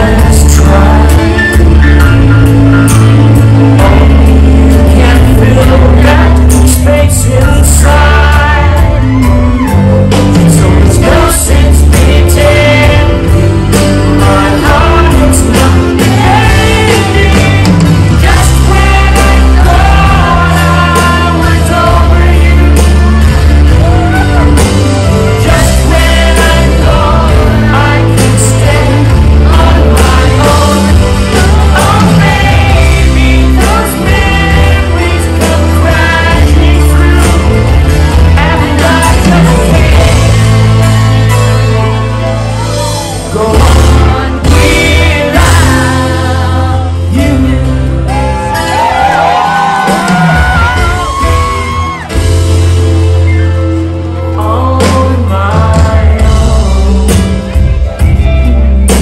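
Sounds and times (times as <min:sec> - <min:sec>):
heavy steady bass: 0:00.0 - 0:59.0
live soft rock band: 0:00.0 - 0:59.0
man singing: 0:00.0 - 0:59.0.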